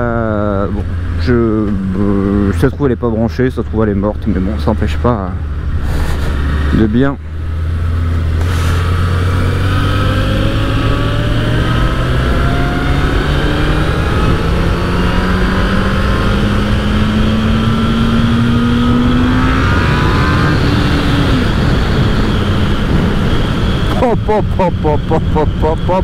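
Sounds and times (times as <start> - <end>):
motorcycle engine accelerating: 0.0 - 2.8, 3.6 - 26.0.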